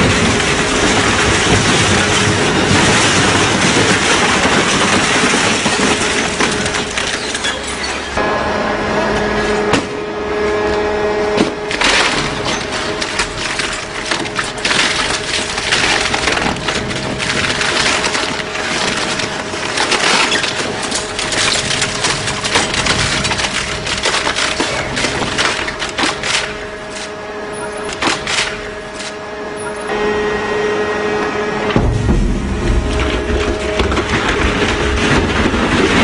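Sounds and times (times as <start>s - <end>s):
shredder crunching board: 0.0s - 7.4s, 11.3s - 30.3s, 31.2s - 36.0s
machine humming: 0.0s - 36.0s.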